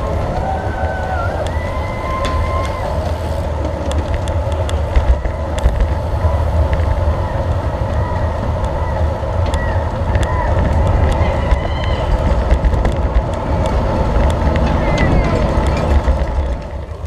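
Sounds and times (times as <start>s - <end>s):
bicycle clicks: 0.0s - 17.0s
wind and road noise rumble: 0.0s - 17.0s.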